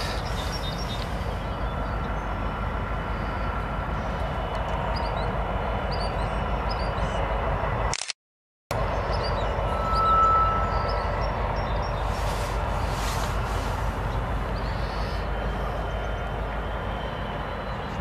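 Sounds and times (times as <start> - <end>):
diesel locomotives rumbling past: 0.0 - 7.9, 8.7 - 18.0.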